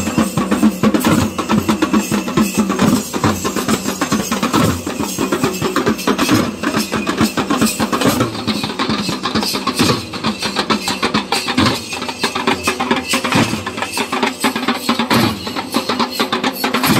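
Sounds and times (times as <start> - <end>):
drums beaten fast: 0.0 - 16.9.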